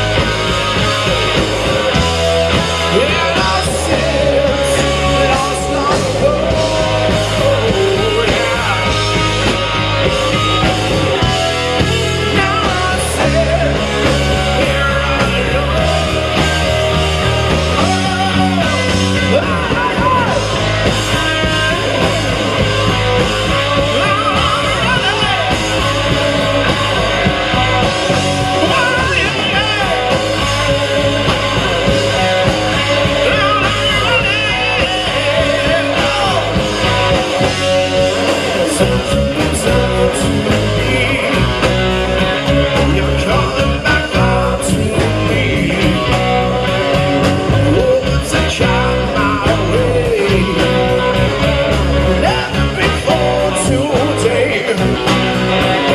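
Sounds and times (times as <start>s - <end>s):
rock band playing: 0.0s - 55.9s
person singing: 2.0s - 55.9s.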